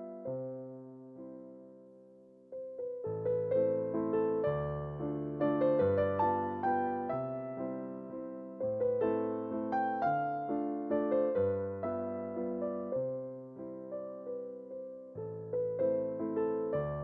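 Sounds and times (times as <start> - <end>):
soft piano melody: 0.0 - 17.0.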